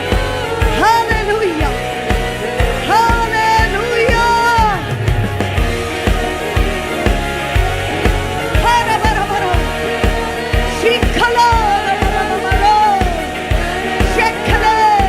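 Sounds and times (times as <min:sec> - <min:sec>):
high sliding melody: 0:00.0 - 0:15.0
steady drum beat: 0:00.0 - 0:15.0.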